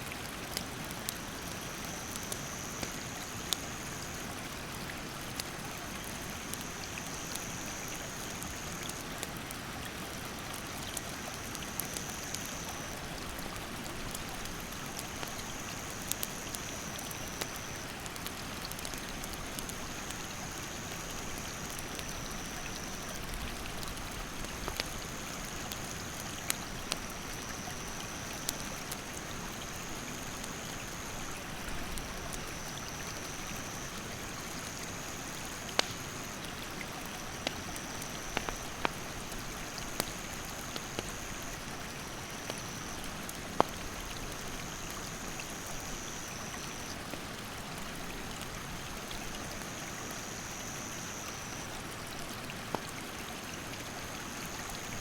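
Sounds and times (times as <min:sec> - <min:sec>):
campfire crackling and popping: 0:00.2 - 0:50.3, 0:52.6 - 0:53.0.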